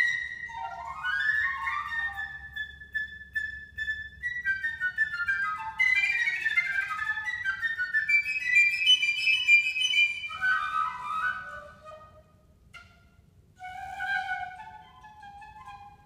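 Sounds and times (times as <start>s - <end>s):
solo piccolo playing: 0.0s - 16.0s.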